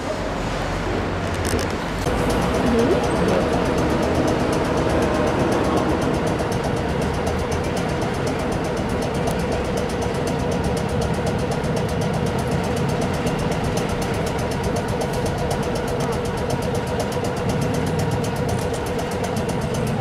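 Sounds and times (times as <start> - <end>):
tram equipment humming: 0.0 - 20.0
fast regular ticking: 2.0 - 20.0.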